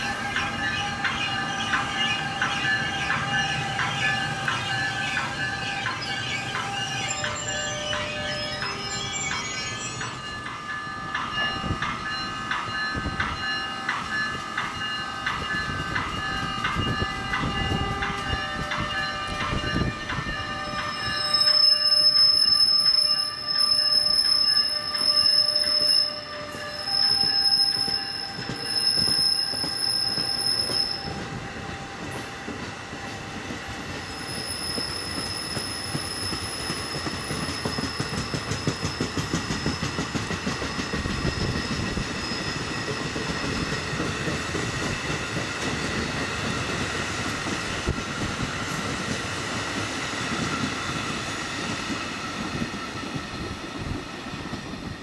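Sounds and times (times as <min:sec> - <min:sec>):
rail cars rumbling: 0:00.0 - 0:55.0
train wheel squeal: 0:00.0 - 0:55.0.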